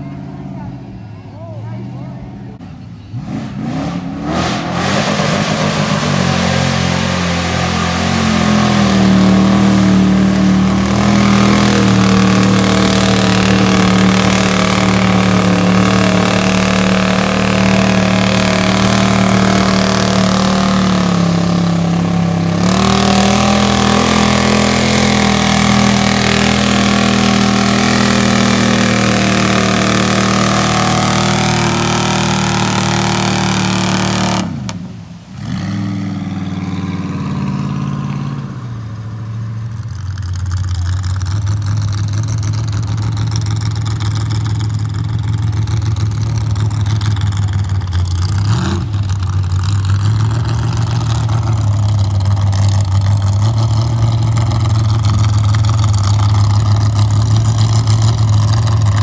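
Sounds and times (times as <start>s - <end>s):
truck engine revving hard: 1.8s - 59.0s
tyres spinning through mud: 4.6s - 59.0s.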